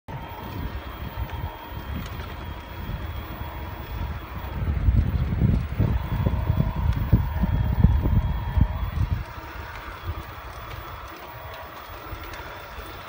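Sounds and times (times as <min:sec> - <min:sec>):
faint high whine: 0:00.1 - 0:13.0
wind buffeting microphone: 0:00.1 - 0:13.0.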